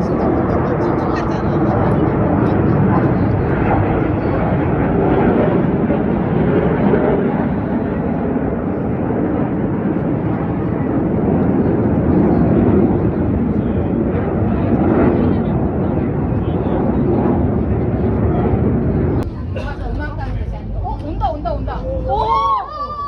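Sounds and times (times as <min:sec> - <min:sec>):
jets flying over: 0:00.0 - 0:22.5.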